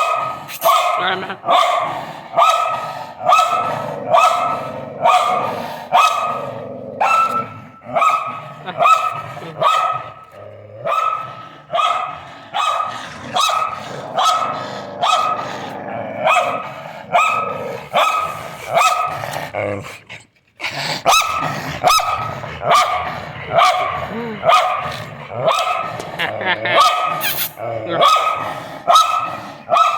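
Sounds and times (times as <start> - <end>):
dog barking: 0.0 - 10.2, 10.8 - 15.6, 16.2 - 19.3, 21.1 - 26.0, 26.6 - 29.9.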